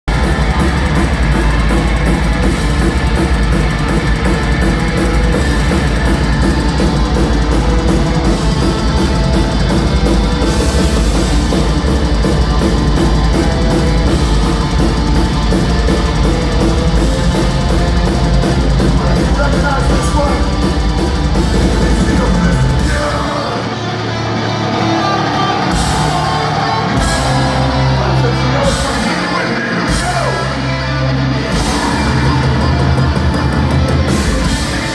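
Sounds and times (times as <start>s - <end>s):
distorted electric guitars: 0.0s - 34.9s
fast heavy drumming: 0.0s - 34.9s
band vocals: 0.1s - 34.9s.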